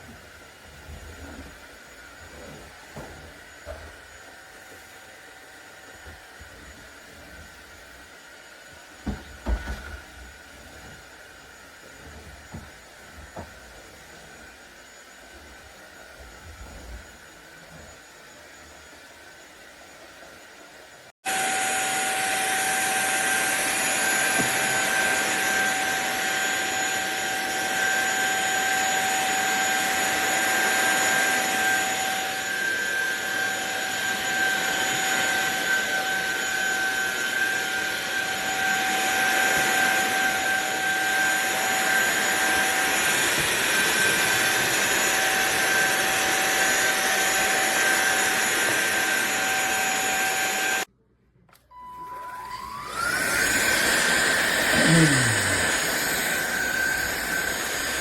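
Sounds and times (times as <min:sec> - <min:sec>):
vacuum cleaner motor whine: 0:00.0 - 0:50.9, 0:51.7 - 0:58.0.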